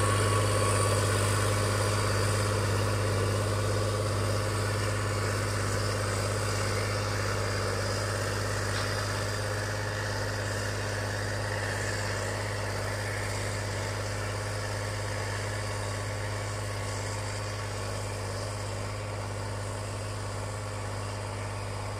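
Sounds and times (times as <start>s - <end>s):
engine drone with hiss: 0.0s - 21.9s.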